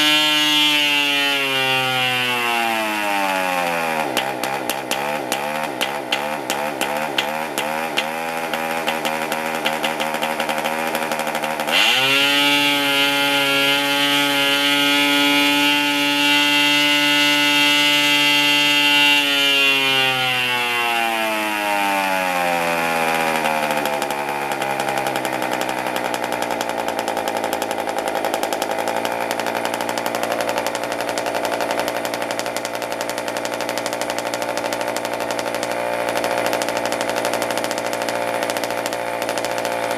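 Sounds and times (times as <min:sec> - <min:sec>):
model engine running and revving: 0:00.0 - 0:39.9.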